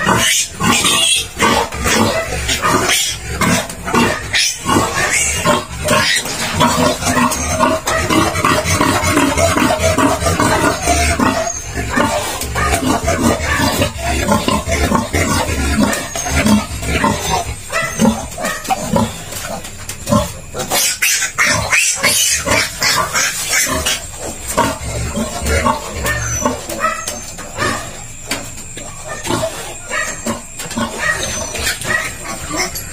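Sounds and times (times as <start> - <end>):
piglets squealing and grunting: 0.0 - 28.2, 28.8 - 32.9.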